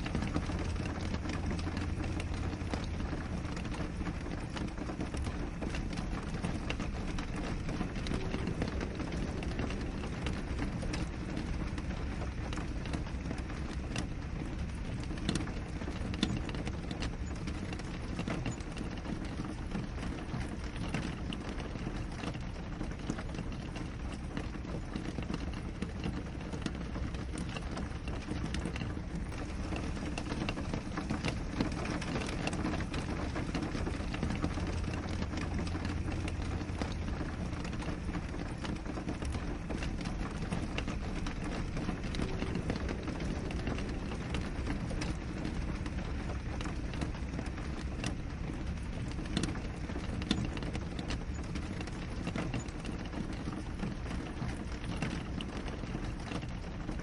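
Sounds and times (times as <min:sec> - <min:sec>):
rain rumble: 0:00.0 - 0:57.0
raindrops ticking on glass: 0:00.0 - 0:57.0.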